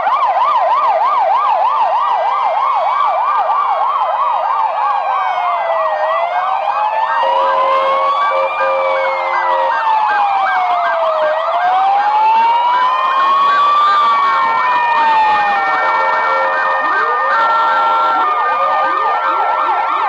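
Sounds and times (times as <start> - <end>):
ambulance sirens: 0.0 - 20.0
steady low siren tone: 0.0 - 20.0.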